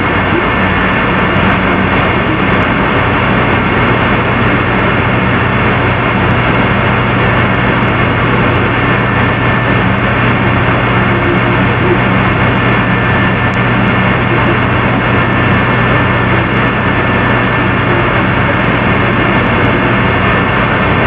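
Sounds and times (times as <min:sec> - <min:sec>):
constant low hum: 0:00.0 - 0:21.0
loud steady rushing noise: 0:00.0 - 0:21.0.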